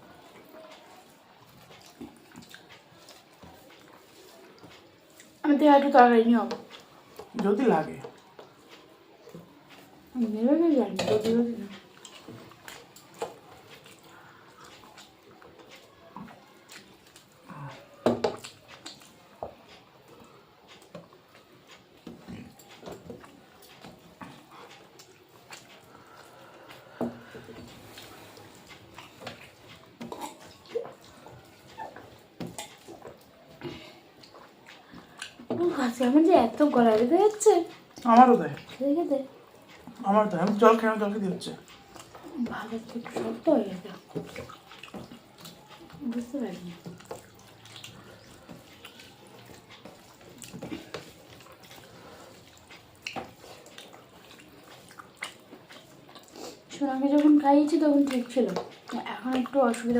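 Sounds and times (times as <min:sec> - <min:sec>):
mouth noises of chewing: 0:00.0 - 0:05.4, 0:10.9 - 0:59.9
eating clicks and smacks: 0:00.2 - 0:05.4, 0:10.9 - 0:35.7, 0:36.6 - 0:59.9.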